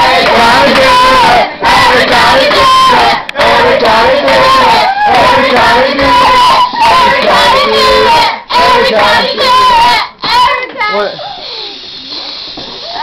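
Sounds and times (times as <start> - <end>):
group singing and shouting chant: 0.0 - 10.8.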